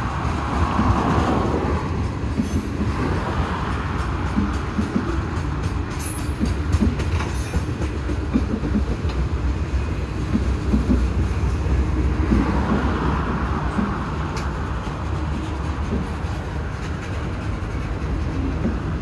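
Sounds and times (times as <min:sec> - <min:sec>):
train cars clacking and knocking: 0:00.0 - 0:19.0
train wheels rumbling on rail: 0:00.0 - 0:19.0.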